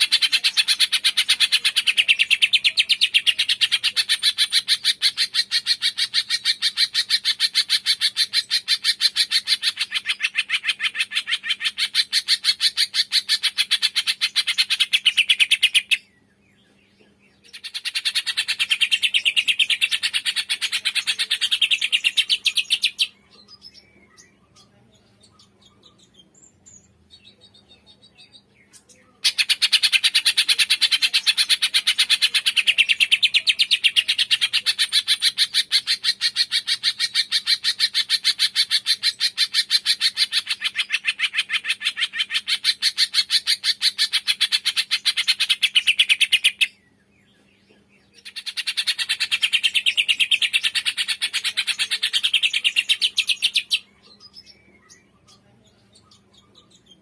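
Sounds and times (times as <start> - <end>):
songbird trilling: 0.0 - 16.1, 17.4 - 46.9, 48.1 - 57.0
bird chirps: 0.0 - 57.0.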